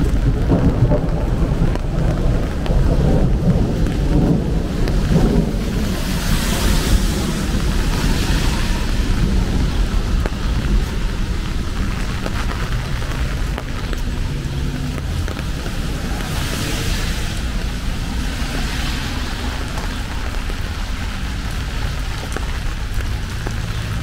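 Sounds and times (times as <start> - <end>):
rain on a street: 0.0 - 24.0.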